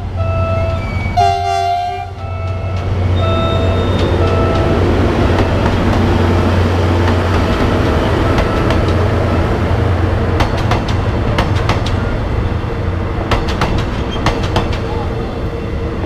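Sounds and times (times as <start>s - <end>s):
locomotive engine droning: 0.0s - 16.0s.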